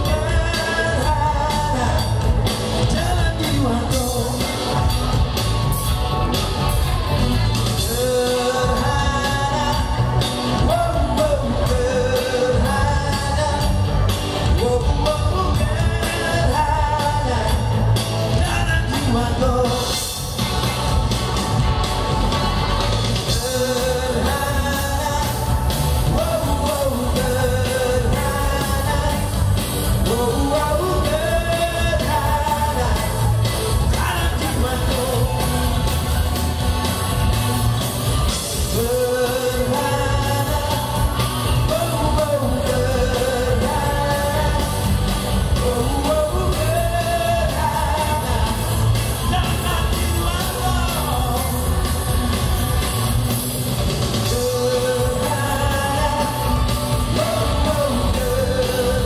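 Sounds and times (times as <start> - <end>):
man singing into a microphone: 0.0 - 5.1, 7.2 - 20.4, 23.2 - 35.9, 38.4 - 52.4, 54.2 - 59.0
rock band with guitar and drums: 0.0 - 59.0.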